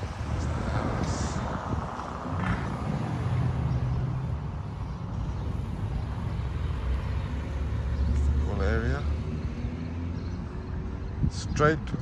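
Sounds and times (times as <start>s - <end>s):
van engine rumbling: 0.0s - 12.0s.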